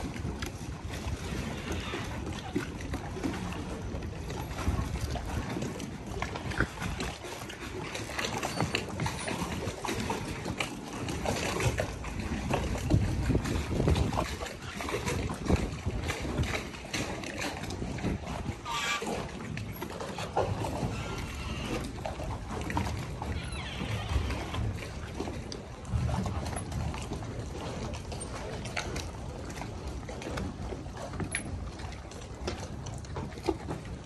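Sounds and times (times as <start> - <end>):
water lapping at hulls: 0.0 - 34.0
wind rumbling on microphone: 0.0 - 34.0.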